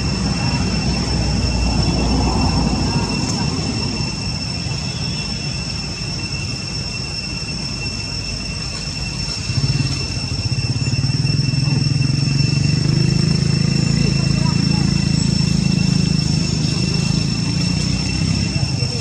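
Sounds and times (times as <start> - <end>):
engine low hum: 0.0 - 19.0
high-pitched whine: 0.0 - 19.0.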